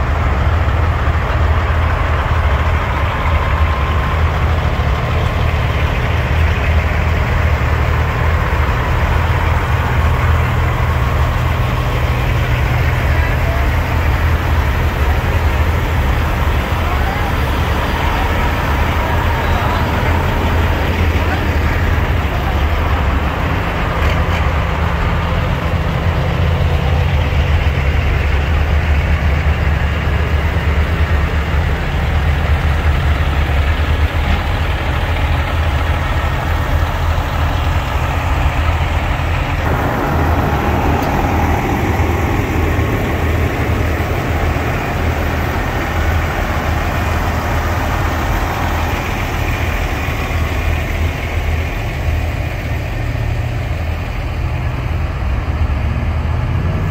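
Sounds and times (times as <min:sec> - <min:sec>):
truck diesel engine idling: 0:00.0 - 0:56.9.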